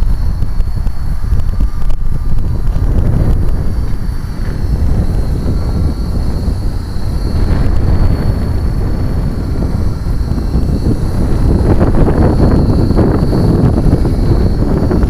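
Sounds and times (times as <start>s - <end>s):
toy helicopter motor whine: 0.0s - 15.0s
wind buffeting microphone: 0.0s - 15.0s.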